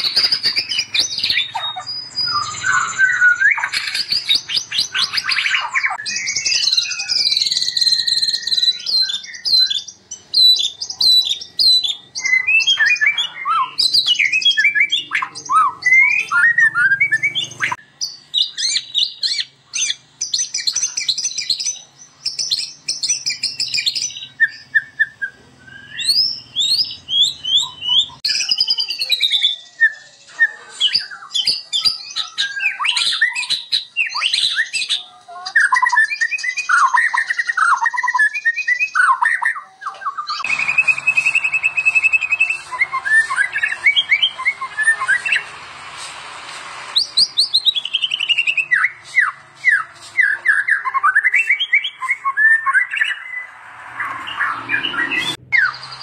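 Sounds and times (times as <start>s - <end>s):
songbird singing whistles: 0.0s - 45.5s, 46.9s - 56.0s.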